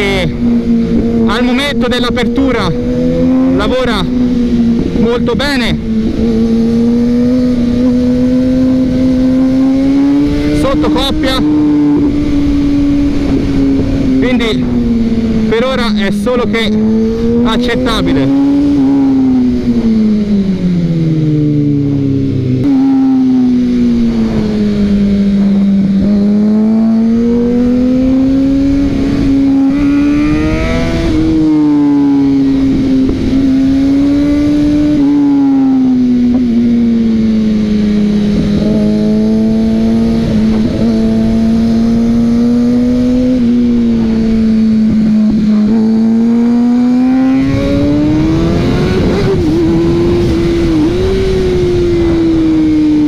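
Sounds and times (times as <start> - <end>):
motorcycle engine revving: 0.0 - 53.0
wind rushing: 0.0 - 53.0.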